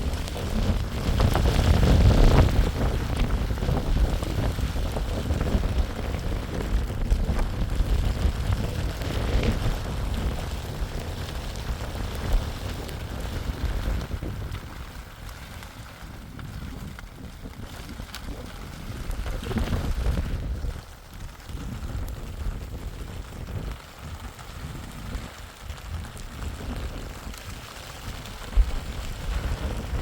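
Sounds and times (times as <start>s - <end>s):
rain falling: 0.0s - 30.0s
wind gusting on microphone: 0.0s - 30.0s.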